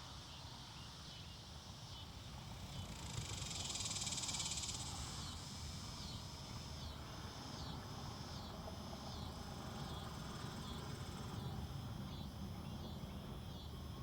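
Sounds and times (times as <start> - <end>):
insects buzzy calls: 0.0 - 14.0.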